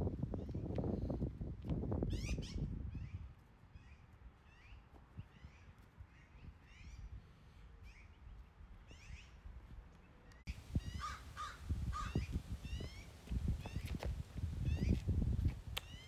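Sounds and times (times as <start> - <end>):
small birds chirping: 2.1 - 16.0.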